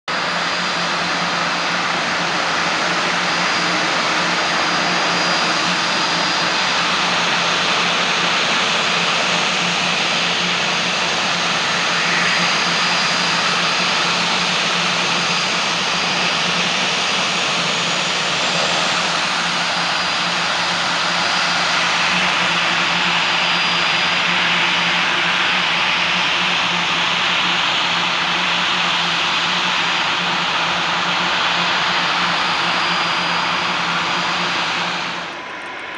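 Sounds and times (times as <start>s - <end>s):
turboprop engines running: 0.1s - 35.9s.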